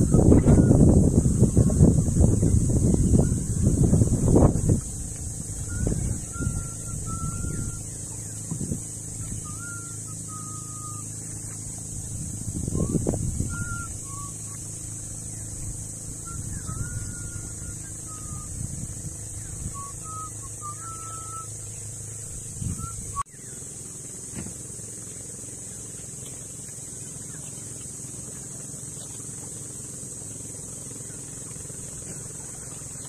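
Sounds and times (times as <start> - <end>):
small engine humming: 0.0 - 33.0.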